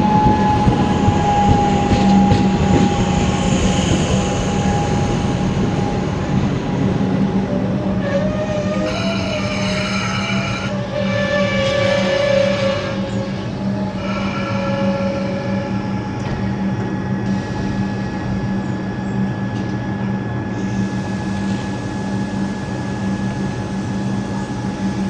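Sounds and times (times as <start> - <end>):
electric train hum: 0.0 - 25.0.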